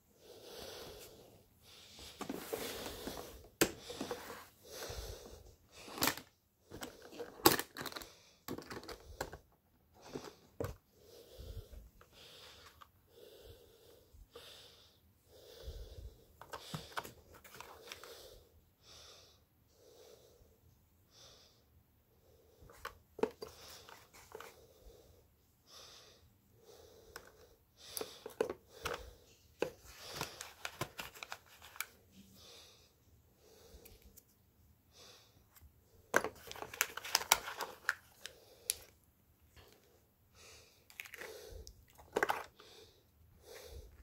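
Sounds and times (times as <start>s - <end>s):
soft breathing: 0.0s - 44.0s.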